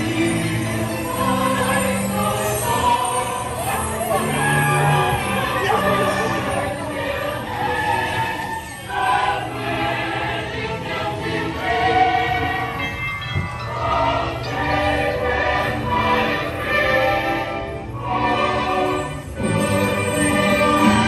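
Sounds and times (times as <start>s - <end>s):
choir singing: 0.0s - 21.0s
orchestral music: 0.0s - 21.0s.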